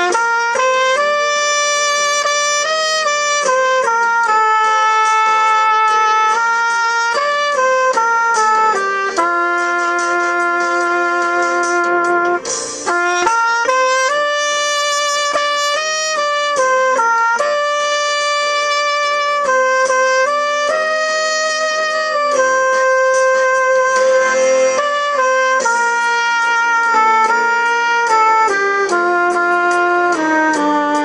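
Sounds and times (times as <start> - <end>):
saxophone slow melody: 0.0 - 31.0.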